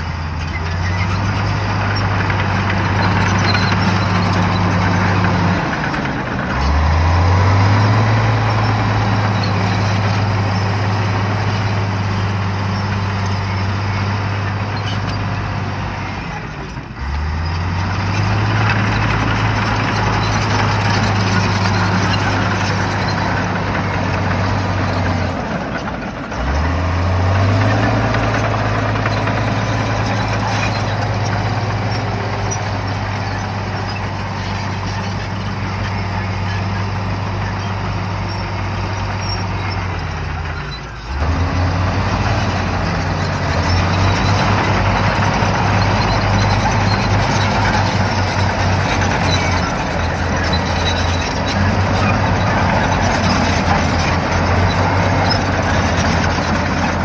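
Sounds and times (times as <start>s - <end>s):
bulldozer diesel engine: 0.0s - 57.0s
machinery clatter: 0.4s - 57.0s.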